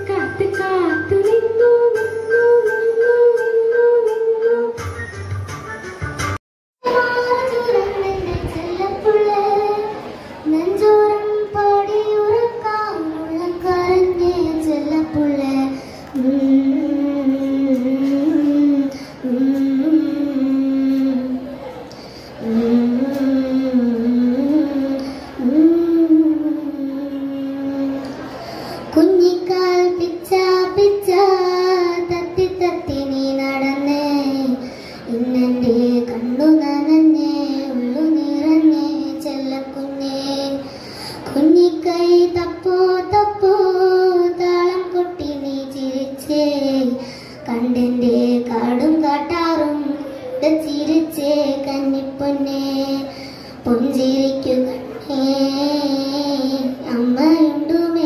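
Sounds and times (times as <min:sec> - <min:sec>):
child singing: 0:00.0 - 0:04.8, 0:06.8 - 0:21.6, 0:22.4 - 0:28.2, 0:28.9 - 0:58.0.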